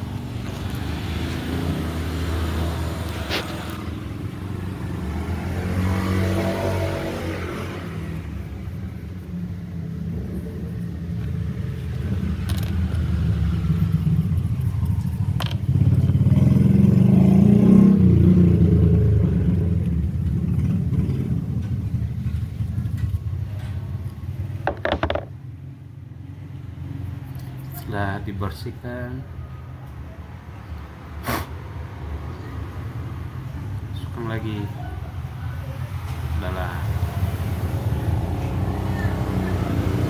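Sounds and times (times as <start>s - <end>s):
vehicle engines passing: 0.0s - 40.0s.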